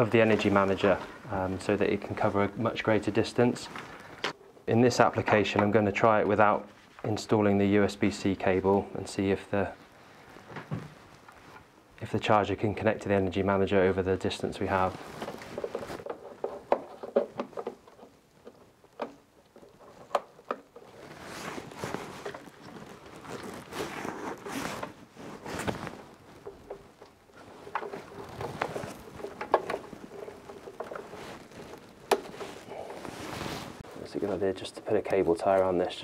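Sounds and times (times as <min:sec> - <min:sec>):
cable and clothing rustling: 0:00.0 - 0:36.0.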